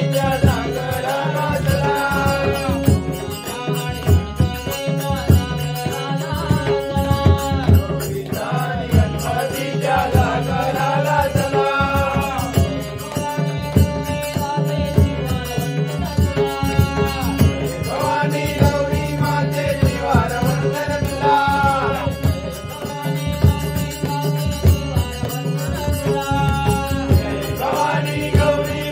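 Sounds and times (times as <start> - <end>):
hand-played barrel drums: 0.0 - 28.9
harmonium chords: 0.0 - 28.9
men singing: 0.0 - 28.9.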